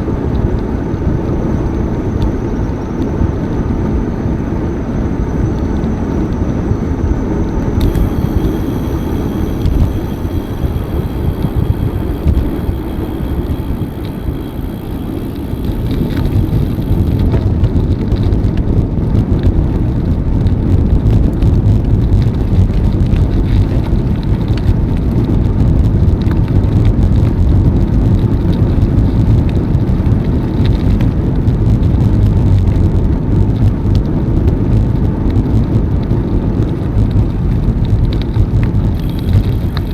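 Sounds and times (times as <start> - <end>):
bicycle tyre rumble: 0.0 - 39.9
wind over microphone: 0.0 - 39.9.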